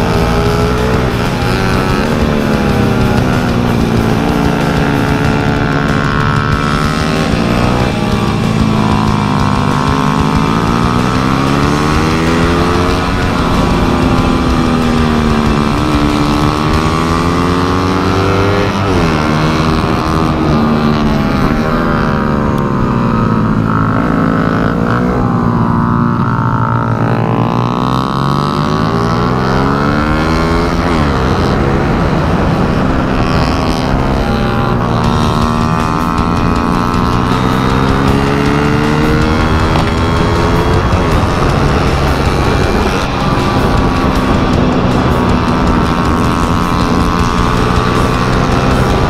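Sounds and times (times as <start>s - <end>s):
race motorcycle engine revving: 0.0s - 49.0s.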